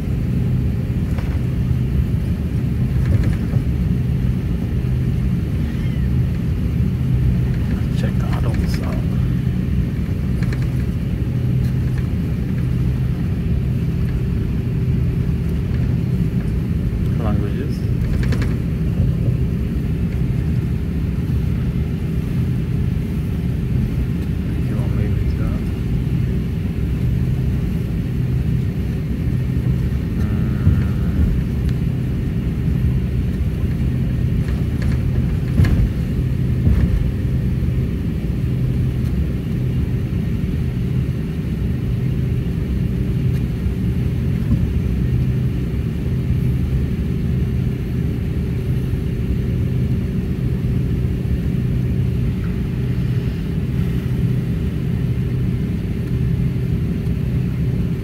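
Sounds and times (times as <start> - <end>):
constant hum: 0.0 - 58.0
jet engine cabin drone: 0.0 - 58.0.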